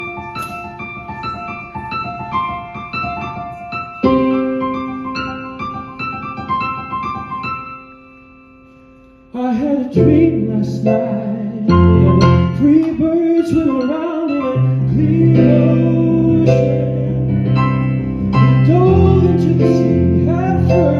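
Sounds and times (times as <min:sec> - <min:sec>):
piano playing: 0:00.0 - 0:20.9.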